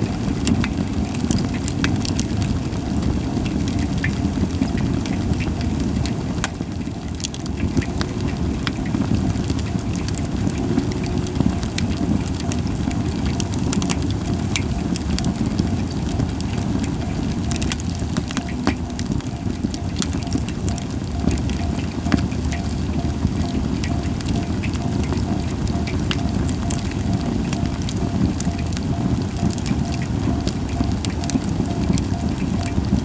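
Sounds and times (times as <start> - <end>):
campfire crackling and popping: 0.0 - 33.0
low fire rumble: 0.0 - 33.0.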